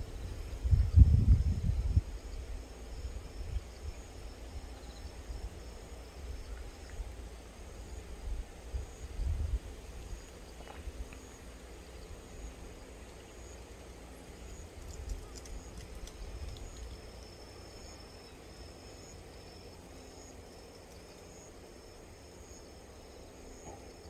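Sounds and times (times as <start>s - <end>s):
low wind rumble: 0.0s - 19.8s
insects trilling: 0.0s - 24.0s.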